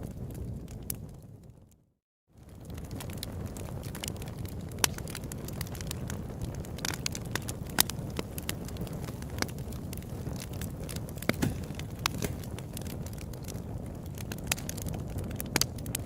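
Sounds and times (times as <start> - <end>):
campfire crackling and popping: 0.0 - 1.8, 2.4 - 16.0.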